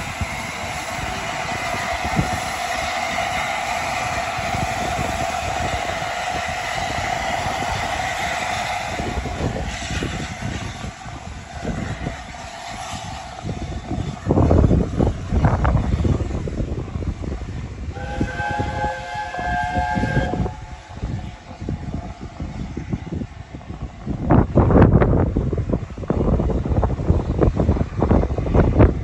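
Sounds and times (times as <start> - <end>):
soft exhaust beats: 0.0 - 29.0
steam locomotive hissing and rumbling: 0.0 - 29.0.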